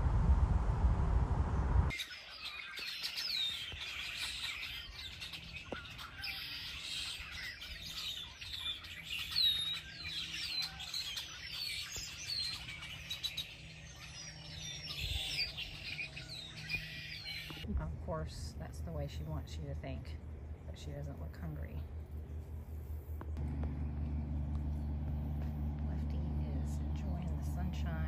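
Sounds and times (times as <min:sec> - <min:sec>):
small birds chirping: 0:01.9 - 0:17.7, 0:19.1 - 0:28.0.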